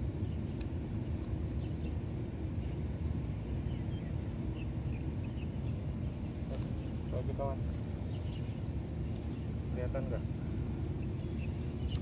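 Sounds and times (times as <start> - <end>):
low outdoor rumble: 0.0 - 12.0
faint bird chirps: 0.1 - 12.0.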